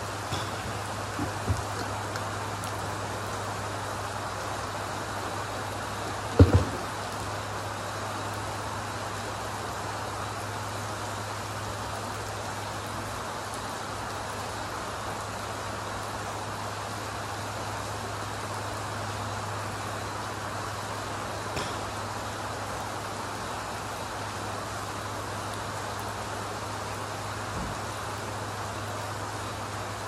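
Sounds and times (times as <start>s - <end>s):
constant low hum: 0.0s - 30.0s
steady rain falling: 0.0s - 30.0s.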